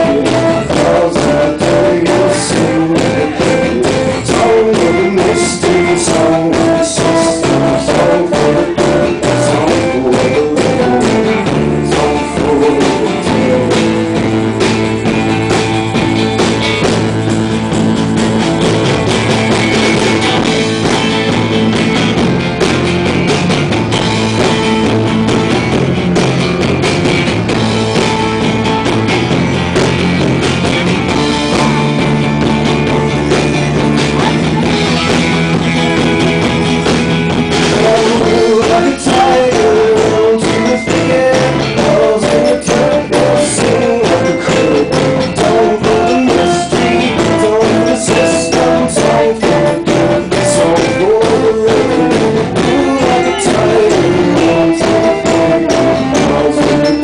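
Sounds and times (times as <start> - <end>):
drum kit: 0.0 - 57.0
electric guitar: 0.0 - 57.0
strummed acoustic guitar: 0.0 - 57.0.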